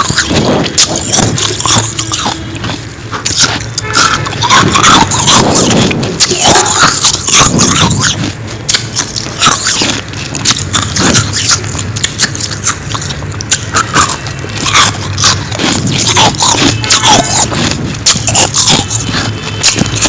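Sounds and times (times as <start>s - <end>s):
frost being chewed crunching: 0.0s - 20.0s.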